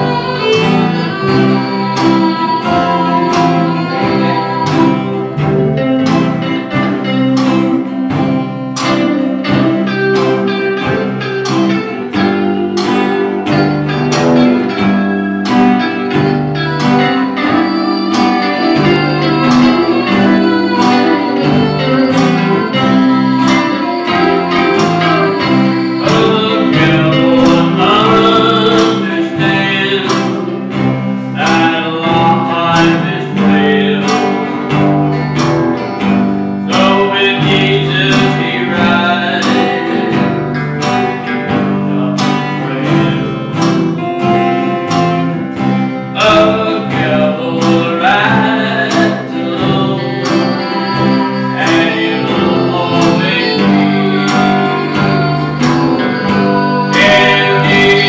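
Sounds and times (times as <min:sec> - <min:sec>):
man singing: 0:00.0 - 0:35.2, 0:36.6 - 0:58.0
country gospel band playing: 0:00.0 - 0:58.0.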